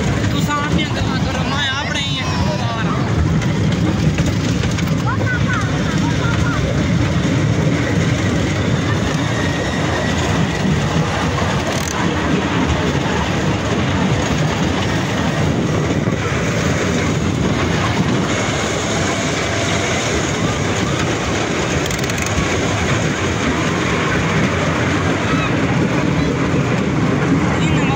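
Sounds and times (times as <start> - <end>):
ride-on train rumbling and rattling: 0.0 - 27.9.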